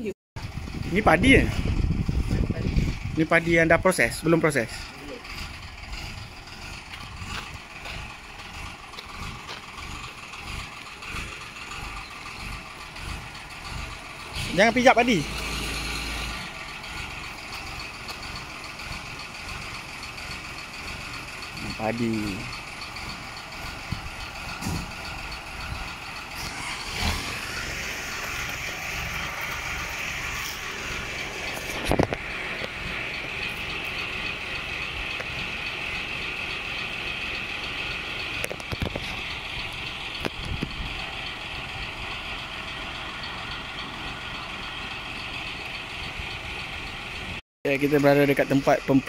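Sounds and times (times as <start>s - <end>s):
engine idling: 0.4s - 49.0s.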